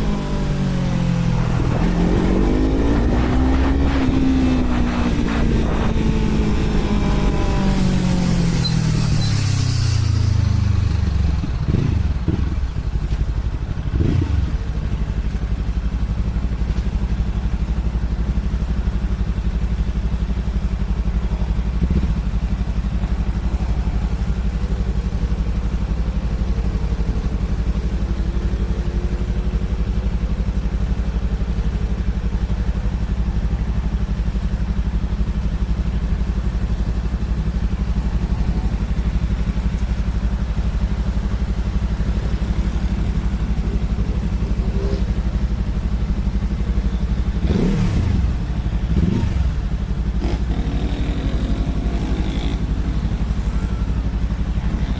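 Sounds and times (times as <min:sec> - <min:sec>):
motorcycle engine revving and idling: 0:00.0 - 0:54.9.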